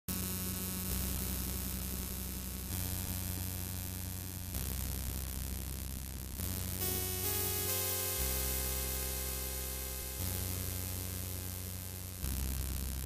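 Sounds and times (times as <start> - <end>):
low electrical hum: 0.1 - 13.0.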